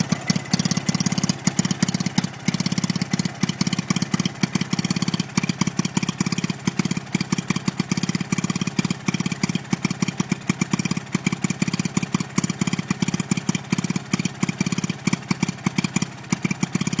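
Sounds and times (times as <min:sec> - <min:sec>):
two-stroke stationary engine running: 0:00.0 - 0:17.0.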